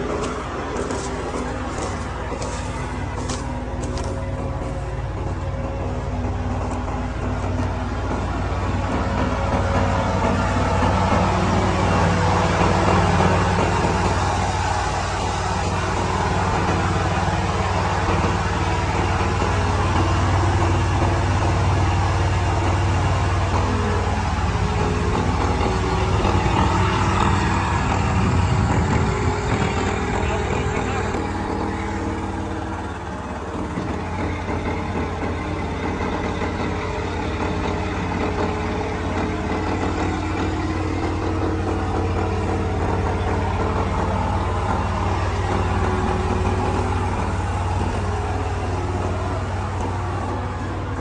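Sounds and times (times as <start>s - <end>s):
combine harvester engine running: 0.0s - 51.0s.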